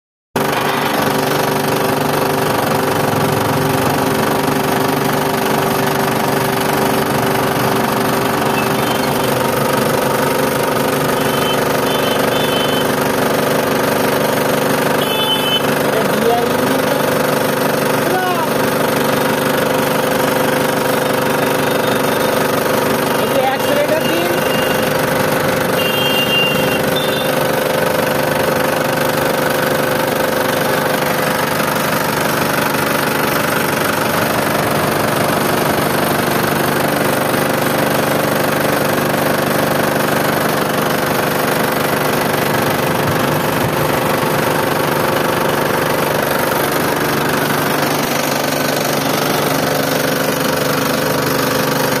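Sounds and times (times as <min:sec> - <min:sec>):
diesel engine idling: 0:00.4 - 0:52.0.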